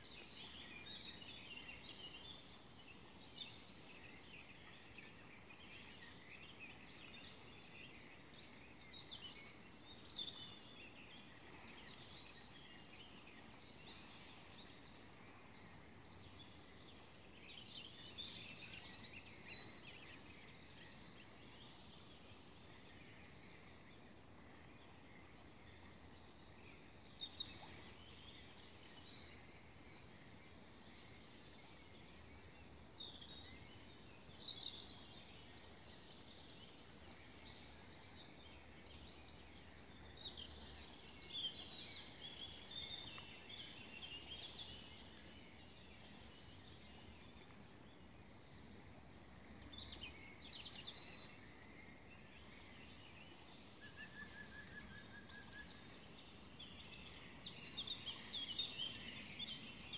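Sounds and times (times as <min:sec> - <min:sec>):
low background hiss: 0:00.0 - 0:59.9
songbirds chirping: 0:00.0 - 0:59.9.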